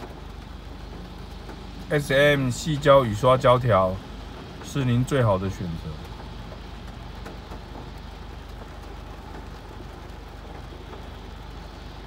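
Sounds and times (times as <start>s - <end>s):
rain falling on a car: 0.0s - 12.0s.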